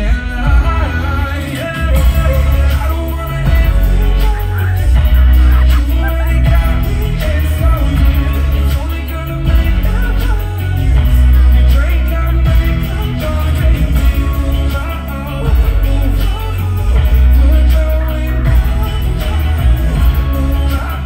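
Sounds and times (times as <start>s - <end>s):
heavy pulsing bass: 0.0s - 21.0s
live pop song through sound system: 0.0s - 21.0s
person singing: 0.0s - 21.0s.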